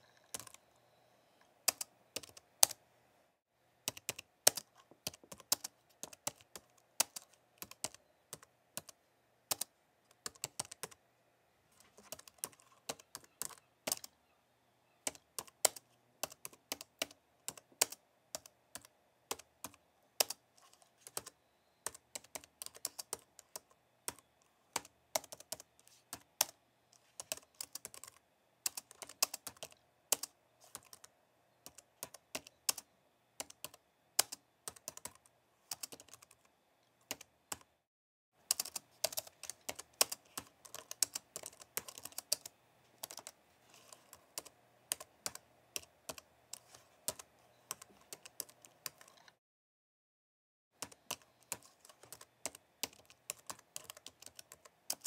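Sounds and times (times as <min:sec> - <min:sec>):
computer keyboard typing: 0:00.0 - 0:00.6, 0:01.6 - 0:02.8, 0:03.8 - 0:11.0, 0:11.8 - 0:14.1, 0:15.0 - 0:37.7, 0:38.4 - 0:49.4, 0:50.8 - 0:55.0.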